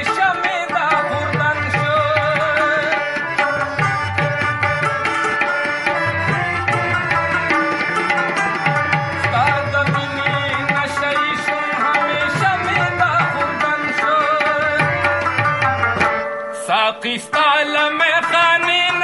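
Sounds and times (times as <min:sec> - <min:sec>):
harmonium chords: 0:00.0 - 0:19.0
plucked rabab notes: 0:00.0 - 0:19.0
tabla rhythm: 0:00.0 - 0:19.0.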